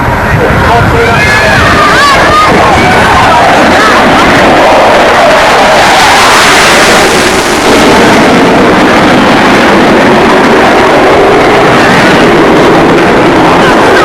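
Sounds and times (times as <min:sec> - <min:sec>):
jet fighter engines roaring: 0:00.0 - 0:14.0.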